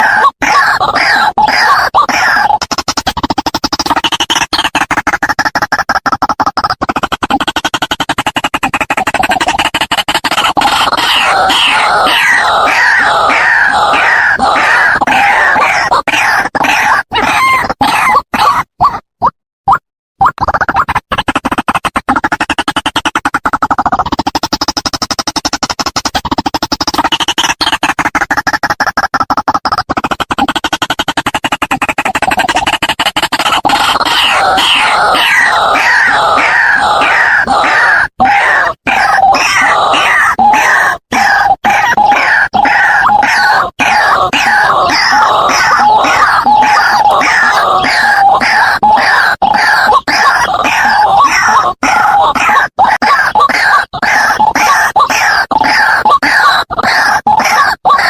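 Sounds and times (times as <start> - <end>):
bird call of rapid repeated notes: 0.0 - 18.6, 20.2 - 58.0.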